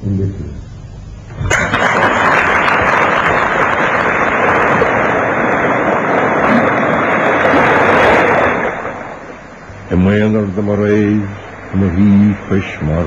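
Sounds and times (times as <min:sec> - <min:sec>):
loud rushing noise: 0:01.5 - 0:13.0.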